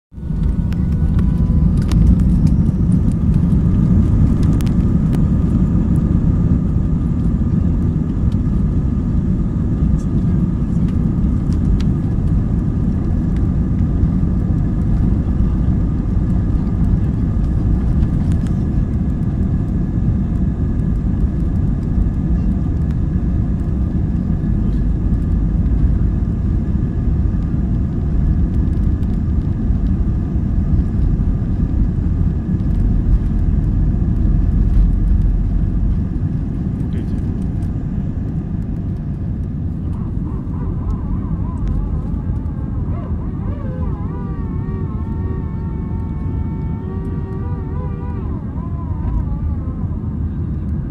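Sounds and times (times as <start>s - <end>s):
engine fan whines: 0.1s - 50.9s
jet engines rumbling in cabin: 0.1s - 50.9s.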